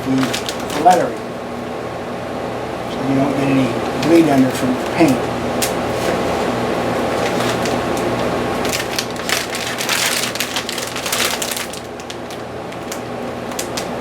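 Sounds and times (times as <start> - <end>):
film peeling off crackling: 0.0 - 1.3, 3.0 - 14.0
steady low hum: 0.0 - 14.0.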